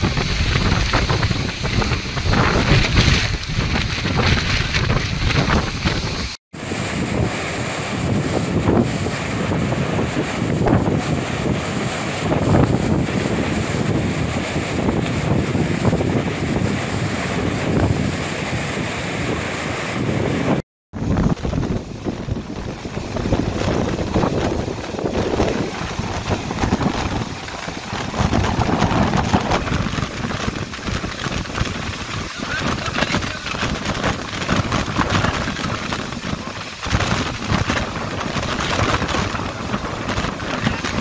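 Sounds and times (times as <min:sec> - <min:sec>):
water roaring over spillway: 0:00.0 - 0:41.0
wind buffeting microphone: 0:00.0 - 0:41.0.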